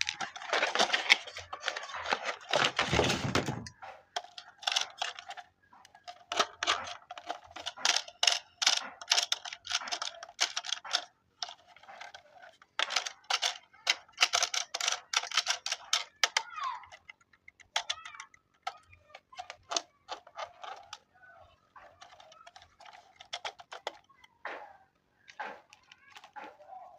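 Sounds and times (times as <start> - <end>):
small hard objects clattering: 0.0 - 26.9.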